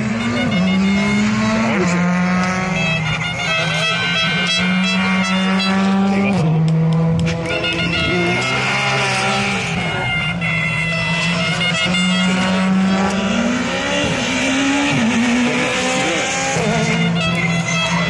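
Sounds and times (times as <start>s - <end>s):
rally car engines racing past: 0.0s - 18.0s.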